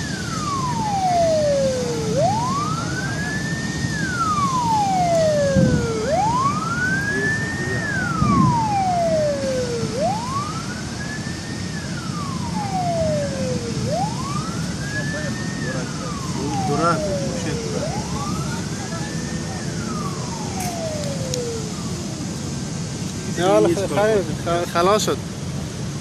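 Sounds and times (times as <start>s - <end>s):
police siren wailing: 0.0s - 25.0s
fire rumbling: 0.0s - 26.0s
low rumble of traffic: 0.0s - 26.0s.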